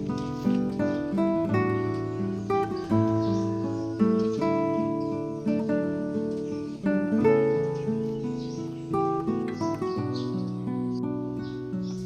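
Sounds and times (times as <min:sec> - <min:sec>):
plucked acoustic guitar: 0:00.0 - 0:12.0.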